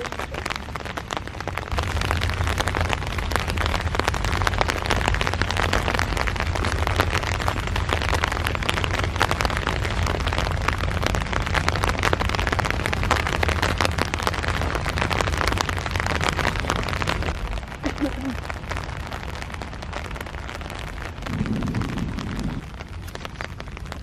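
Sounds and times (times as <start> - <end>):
heavy rain patter: 0.0 - 24.0
low rumble: 0.0 - 24.0.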